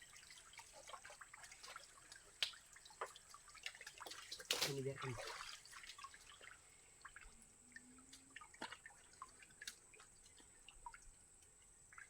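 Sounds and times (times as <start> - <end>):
water drips and splashes: 0.0 - 12.0.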